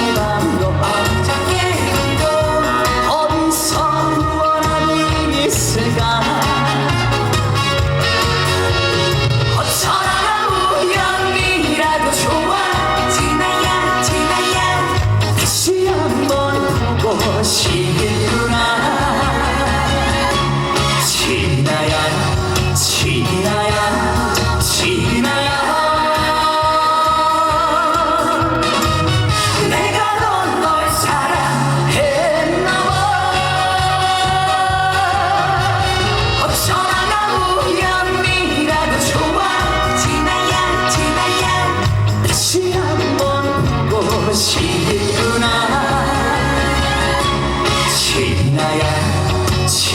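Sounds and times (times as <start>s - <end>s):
person singing: 0.0s - 7.6s, 9.5s - 49.9s
live band playing: 0.0s - 49.9s.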